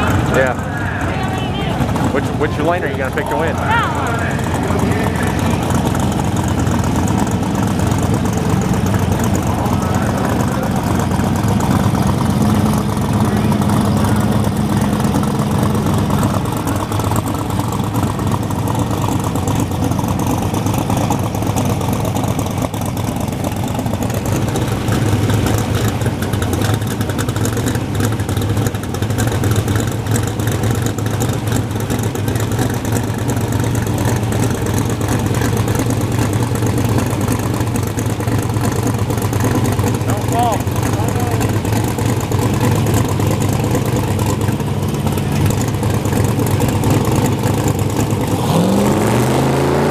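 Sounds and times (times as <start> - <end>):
race car engines idling: 0.0 - 49.9.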